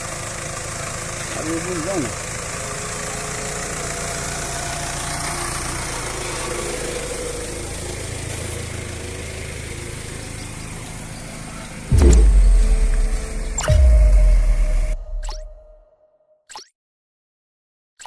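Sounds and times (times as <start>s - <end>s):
truck engine idling: 0.0s - 15.7s.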